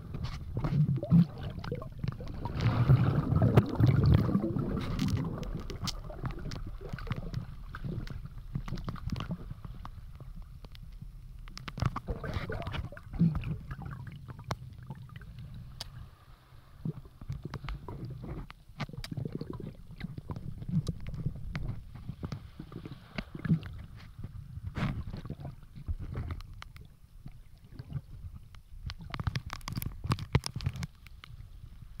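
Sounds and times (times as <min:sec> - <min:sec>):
underwater clicks and crackles: 0:00.0 - 0:16.2, 0:16.8 - 0:32.0
muffled underwater rumble: 0:00.0 - 0:32.0.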